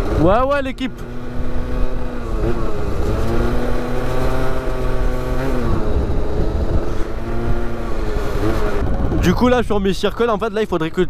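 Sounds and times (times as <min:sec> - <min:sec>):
scooter engine running: 0:00.0 - 0:09.2
low rumble: 0:00.6 - 0:10.0.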